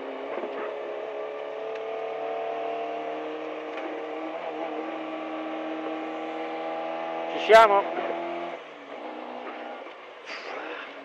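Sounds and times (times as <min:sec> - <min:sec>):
car engine pulling under throttle: 0:00.0 - 0:11.0.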